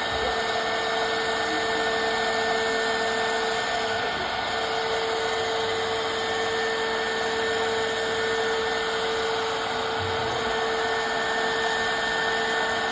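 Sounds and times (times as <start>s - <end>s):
machine whine and hiss: 0.0s - 12.9s.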